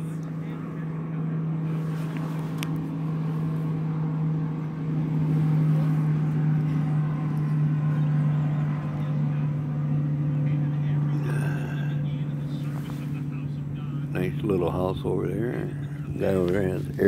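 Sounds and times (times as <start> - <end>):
outboard engine droning: 0.0 - 17.0.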